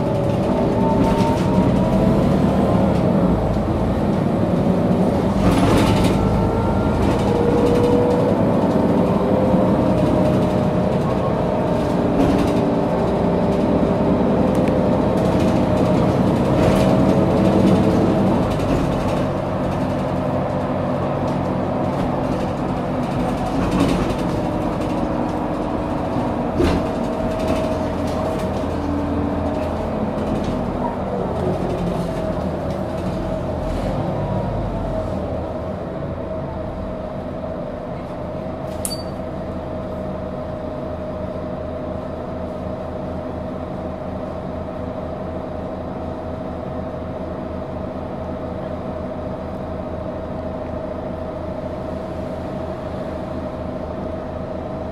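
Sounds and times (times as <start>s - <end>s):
bus diesel engine drone: 0.0s - 54.9s.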